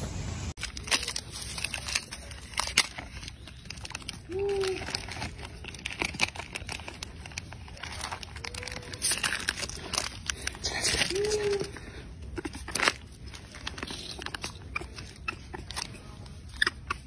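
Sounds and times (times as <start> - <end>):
dry crackling and rustling: 0.5 - 17.0.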